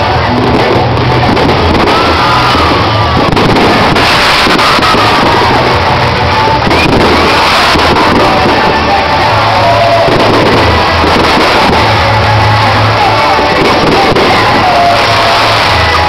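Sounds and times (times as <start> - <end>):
crowd noise: 0.0 - 16.0
fireworks bangs: 0.0 - 16.0
loud music with bass line: 0.0 - 16.0.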